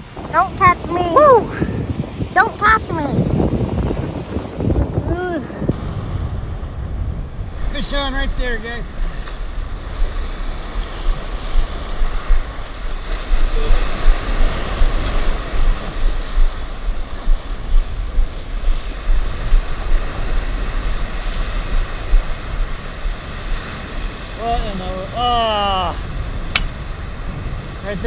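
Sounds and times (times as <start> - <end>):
surf breaking on a beach: 0.0 - 28.0
wind rumbling on microphone: 0.0 - 28.0.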